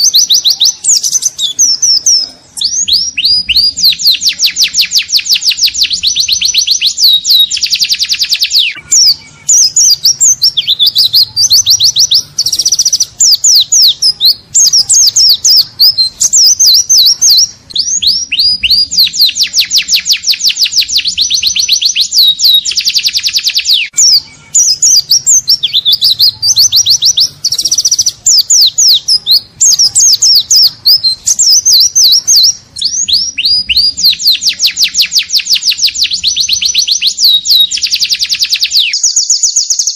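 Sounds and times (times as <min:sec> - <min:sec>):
bird singing fast trills: 0:00.0 - 0:39.9.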